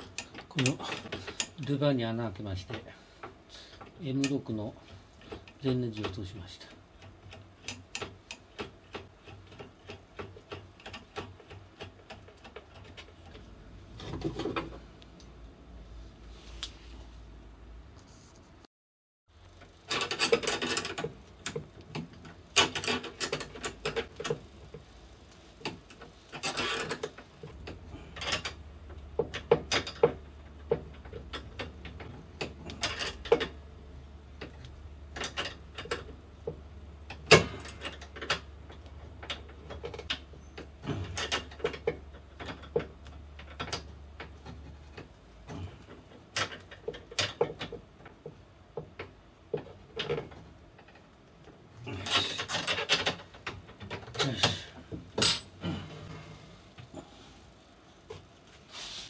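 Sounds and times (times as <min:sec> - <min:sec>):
clicks and knocks of hand work: 0:00.0 - 0:15.3, 0:19.6 - 0:57.1.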